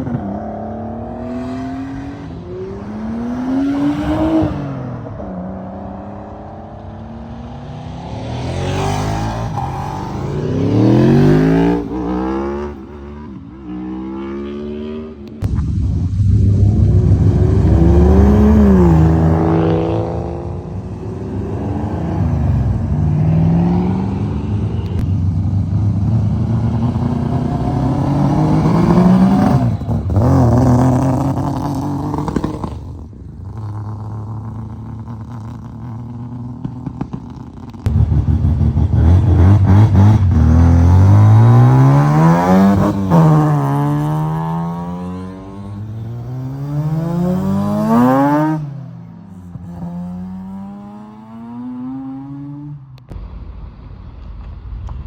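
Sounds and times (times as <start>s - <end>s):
car engines revving: 0.0s - 54.3s.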